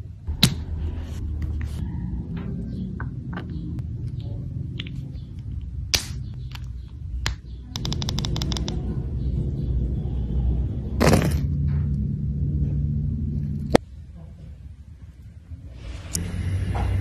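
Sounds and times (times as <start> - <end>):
steady low rumble: 0.2 - 15.6.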